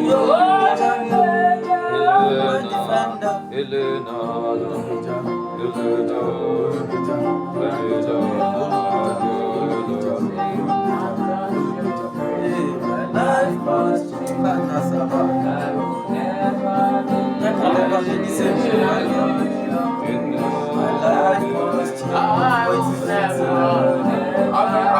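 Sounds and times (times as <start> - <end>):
guitar and keyboard worship music: 0.0 - 24.9
person singing: 0.0 - 24.9.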